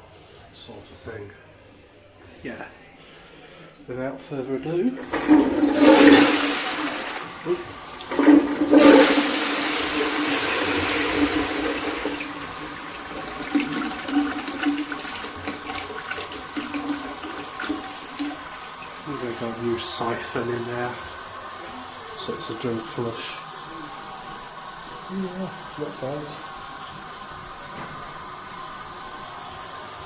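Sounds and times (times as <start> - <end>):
toilet flushing water rushing: 4.7 - 30.0.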